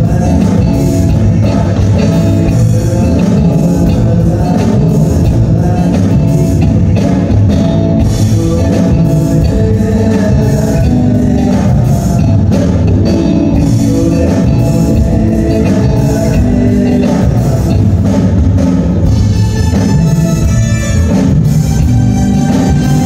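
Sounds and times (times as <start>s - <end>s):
man singing: 0.0s - 21.4s
electric guitar: 0.0s - 23.0s
steady drum beat: 0.0s - 23.0s.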